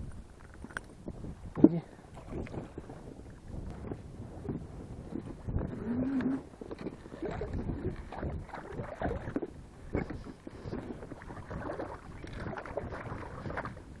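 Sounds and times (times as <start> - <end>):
low rumble of wind: 0.0 - 14.0
water slapping against boat hull: 2.2 - 14.0.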